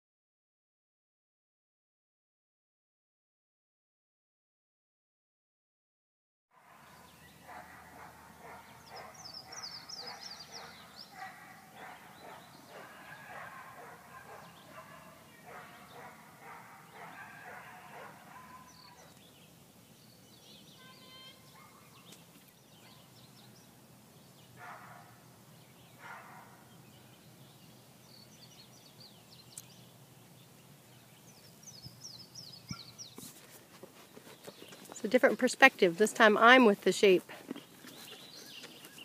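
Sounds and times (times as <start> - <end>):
small birds chirping: 6.6 - 39.0.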